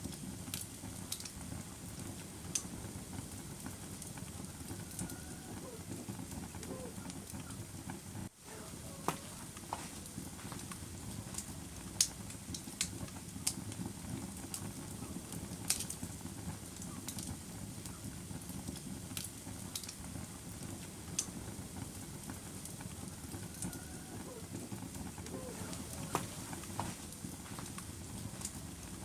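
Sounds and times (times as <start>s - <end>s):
fire flames rumbling: 0.0s - 29.0s
logs crackling and popping: 0.0s - 29.0s.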